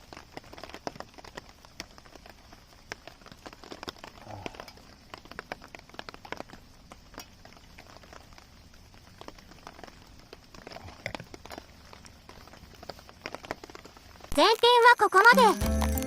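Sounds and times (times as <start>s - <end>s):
faint rain hiss: 0.0s - 16.0s
raindrops ticking on tarp: 0.0s - 16.0s.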